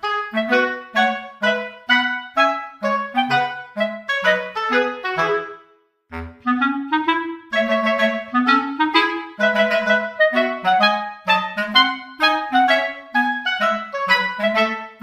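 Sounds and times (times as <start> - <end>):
woodwind melody: 0.0 - 15.0.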